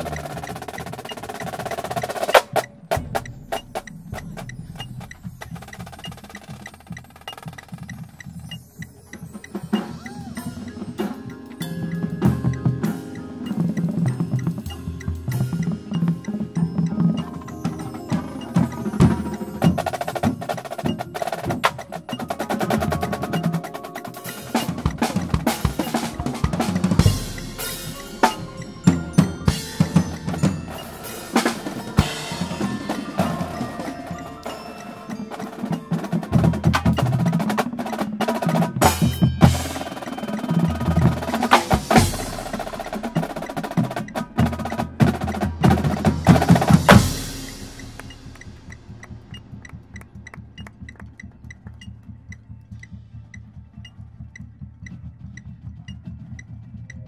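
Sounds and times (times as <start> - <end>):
marching drumline playing: 0.0 - 57.0.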